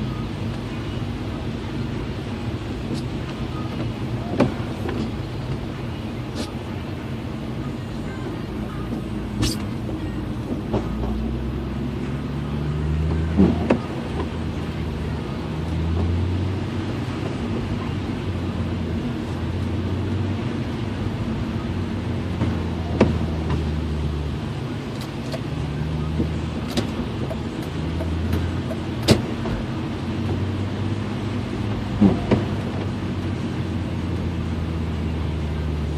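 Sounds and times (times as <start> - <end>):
car engine running: 0.0 - 35.9.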